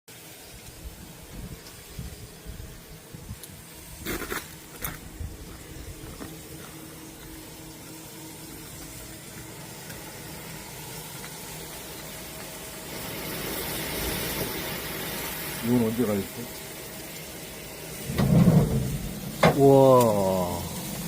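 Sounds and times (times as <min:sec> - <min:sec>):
meat sizzling on grill: 0:00.1 - 0:21.0
fire popping: 0:00.4 - 0:21.0.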